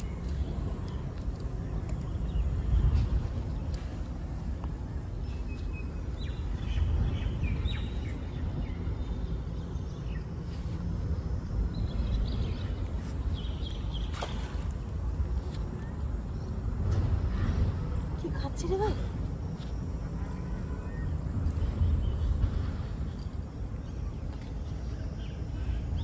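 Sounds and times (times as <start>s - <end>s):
low rumbling outdoor noise: 0.0s - 26.0s.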